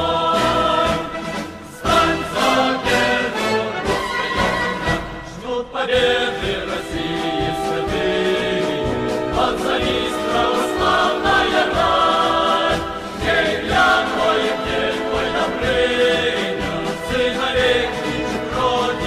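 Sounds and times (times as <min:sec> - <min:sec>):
choir singing long held notes: 0:00.0 - 0:19.0
musical accompaniment: 0:00.0 - 0:19.0.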